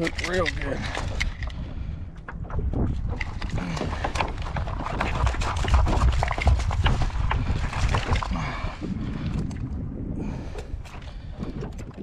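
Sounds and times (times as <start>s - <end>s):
fish tail slapping hull: 0.0s - 9.8s
wind rumble on microphone: 0.0s - 12.0s.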